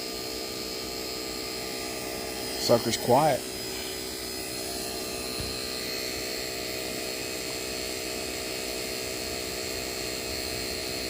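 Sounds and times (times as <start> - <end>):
vacuum pump motor hum: 0.0 - 11.0.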